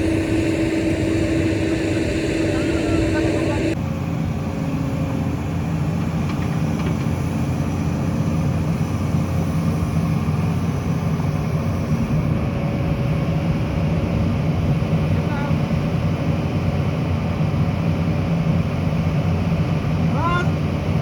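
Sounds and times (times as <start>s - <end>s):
heavy diesel engine under load: 0.0s - 21.0s.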